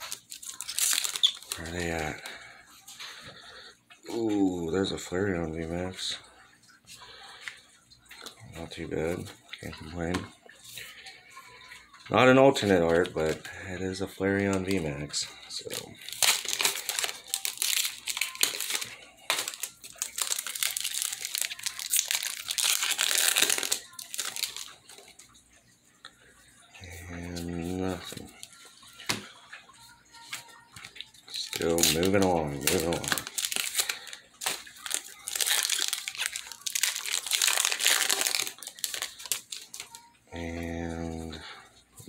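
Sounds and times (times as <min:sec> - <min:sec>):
foil wrapper crinkling: 0:00.0 - 0:06.2, 0:07.0 - 0:25.4, 0:26.9 - 0:40.2.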